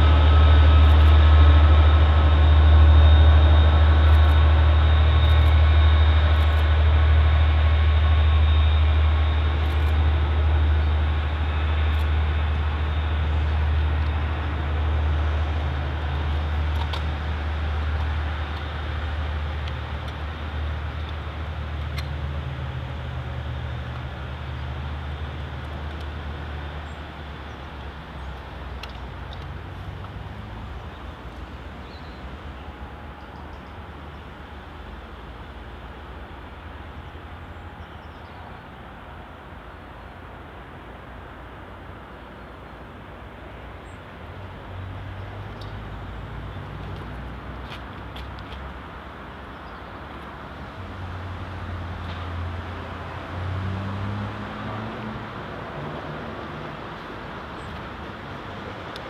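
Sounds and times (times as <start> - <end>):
diesel locomotive engines droning: 0.0 - 59.0.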